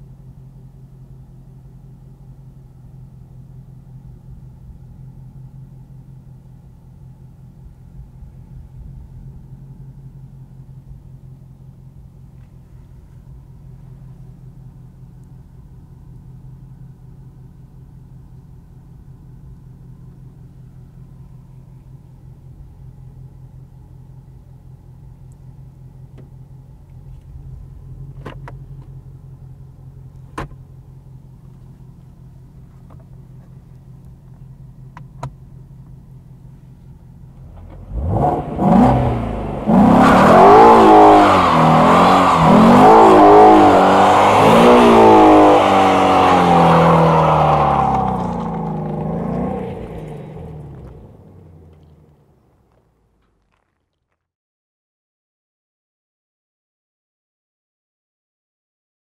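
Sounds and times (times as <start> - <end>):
car engine idling and revving: 0.0 - 54.2.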